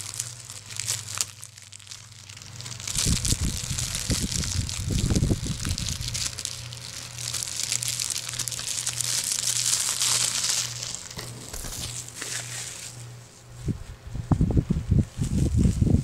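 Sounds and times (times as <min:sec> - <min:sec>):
shrink wrap crinkling: 0:00.0 - 0:13.9, 0:15.0 - 0:16.0
low steady hum: 0:00.0 - 0:16.0.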